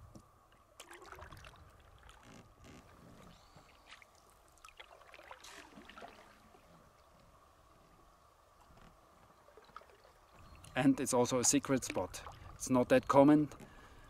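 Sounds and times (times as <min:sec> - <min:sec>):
paddle strokes in water: 0:00.8 - 0:12.8.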